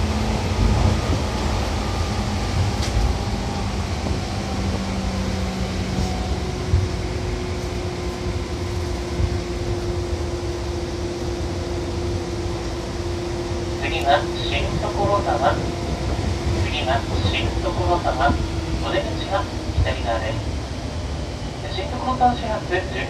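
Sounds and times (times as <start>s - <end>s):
train motor and gear hum: 0.0s - 23.0s
train rolling noise: 0.0s - 23.0s.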